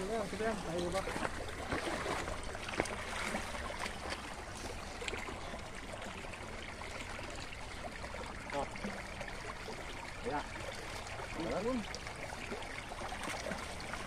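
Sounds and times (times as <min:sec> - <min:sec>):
shallow water trickling: 0:00.0 - 0:14.0.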